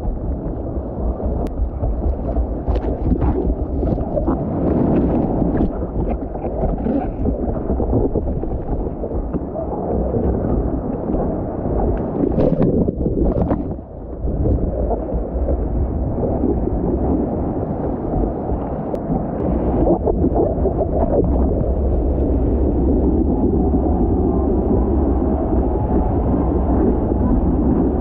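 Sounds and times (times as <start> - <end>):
surf rushing and splashing: 0.0 - 28.0
wind buffeting microphone: 0.0 - 28.0.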